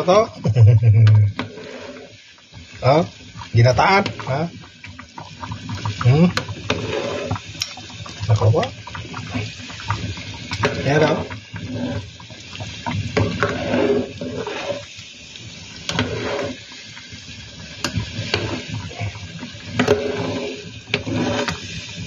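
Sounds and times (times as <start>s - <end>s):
porridge sloshing in a pot: 1.4s - 22.0s.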